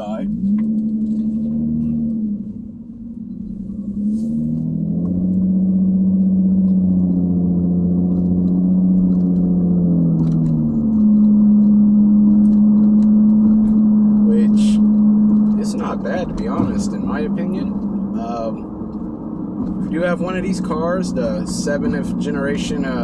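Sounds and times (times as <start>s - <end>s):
car exhaust drone from inside: 0.0s - 23.0s.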